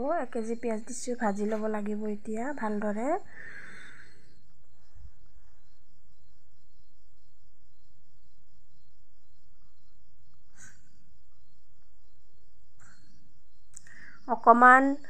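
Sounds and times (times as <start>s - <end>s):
crickets chirring: 0.0s - 15.0s
low steady hum: 0.0s - 15.0s.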